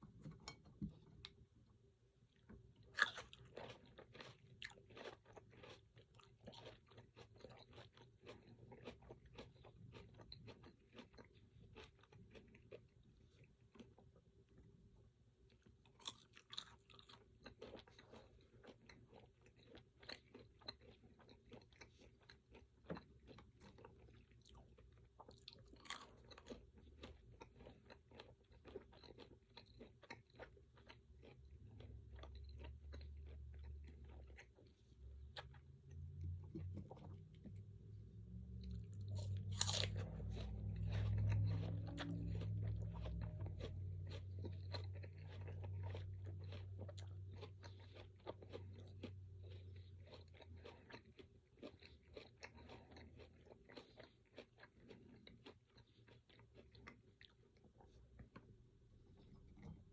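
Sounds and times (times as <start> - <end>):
person chewing crunchy food: 2.3 - 59.9.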